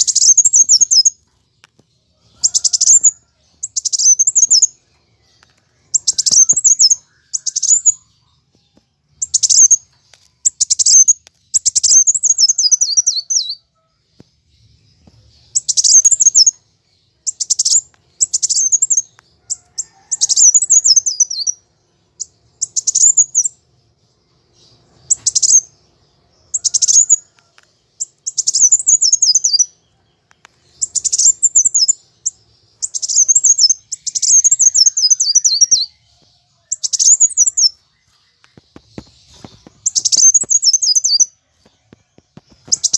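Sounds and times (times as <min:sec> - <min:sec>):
bird chips and trills: 0:00.0 - 0:08.6, 0:09.2 - 0:13.9, 0:14.6 - 0:23.6, 0:24.5 - 0:42.9.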